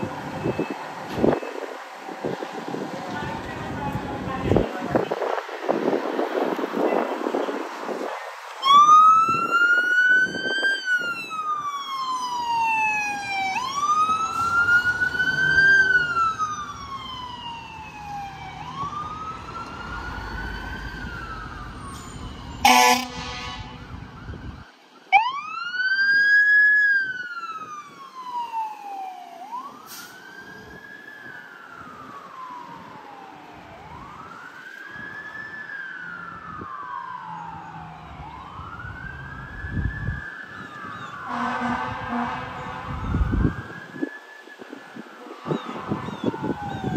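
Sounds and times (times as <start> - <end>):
siren wailing: 8.6 - 46.9.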